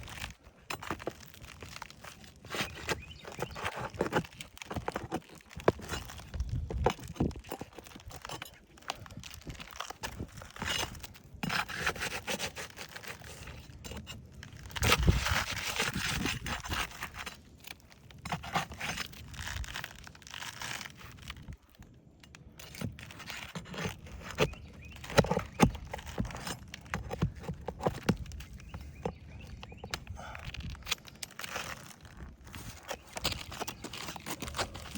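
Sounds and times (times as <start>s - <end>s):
roof shingles scraping and tearing: 0.0s - 34.9s.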